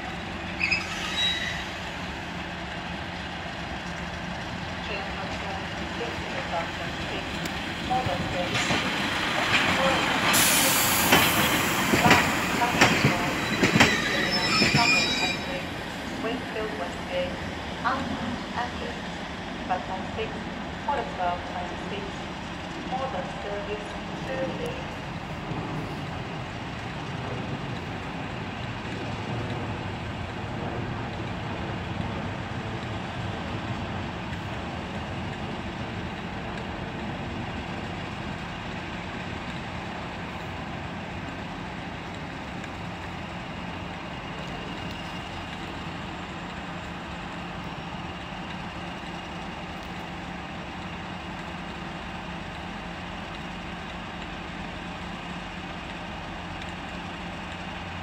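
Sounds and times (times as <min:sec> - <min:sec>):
train engine droning: 0:00.0 - 0:58.0.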